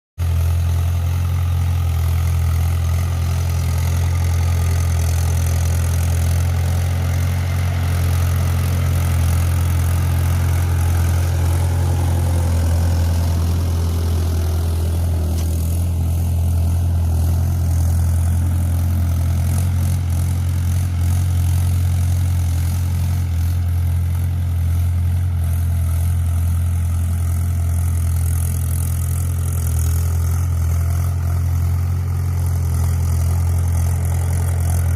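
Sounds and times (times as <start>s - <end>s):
tractor diesel engine droning: 0.2s - 34.9s.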